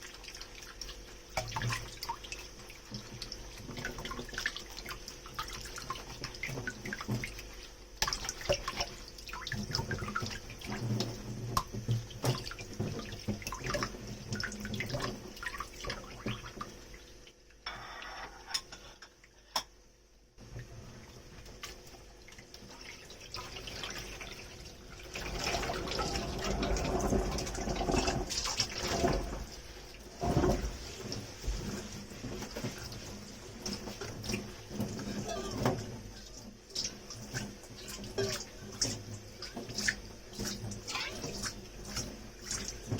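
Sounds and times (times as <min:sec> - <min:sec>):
water splashing and dripping: 0:00.0 - 0:17.5, 0:20.4 - 0:42.9.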